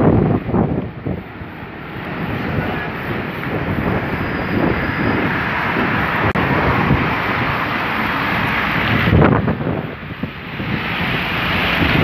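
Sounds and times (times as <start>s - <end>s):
scooter and car traffic: 0.0s - 12.0s
wind blowing over microphone: 0.0s - 12.0s.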